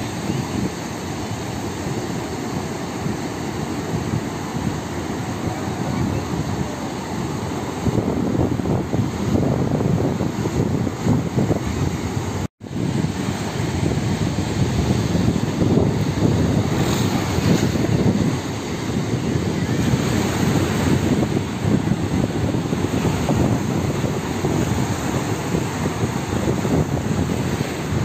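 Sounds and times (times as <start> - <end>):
small waves breaking on shore: 0.0 - 28.0
wind buffeting microphone: 0.0 - 28.0.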